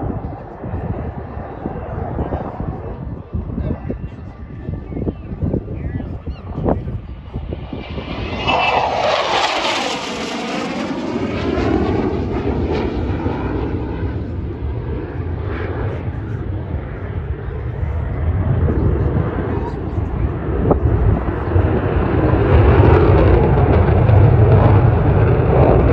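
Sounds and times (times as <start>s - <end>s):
jet engine roaring fly-by: 0.0s - 25.9s.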